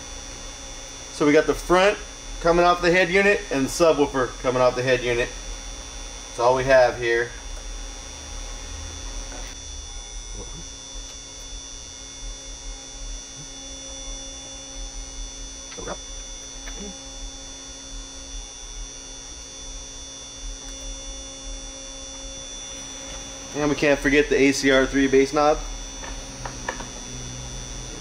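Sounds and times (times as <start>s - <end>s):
electrical hum and buzz: 0.0s - 28.0s.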